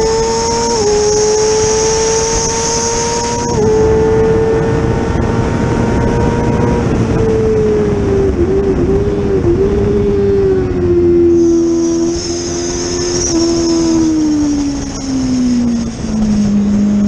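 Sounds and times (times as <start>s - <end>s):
race car engine revving: 0.0s - 17.0s
wind and road noise: 0.0s - 17.0s.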